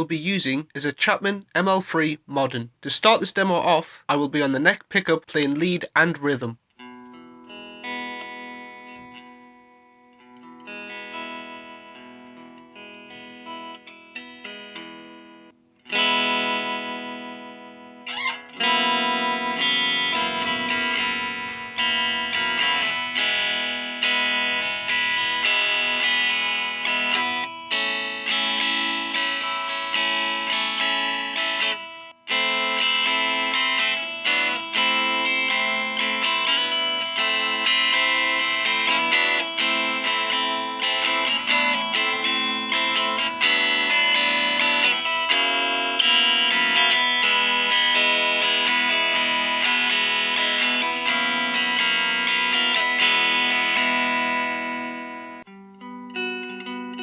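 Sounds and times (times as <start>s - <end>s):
clean electric guitar playing: 5.3s - 57.0s.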